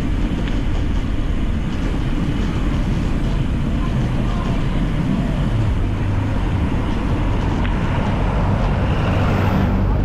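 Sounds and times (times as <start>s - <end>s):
street traffic: 0.0s - 10.0s
wind buffeting microphone: 0.0s - 10.0s.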